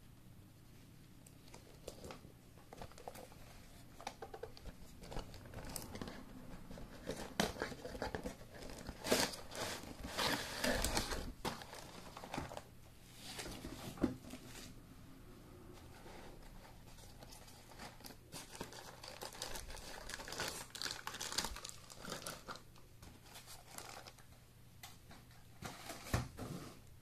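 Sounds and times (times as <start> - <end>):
plastic rustling and crinkling: 1.4 - 14.7, 15.9 - 24.4.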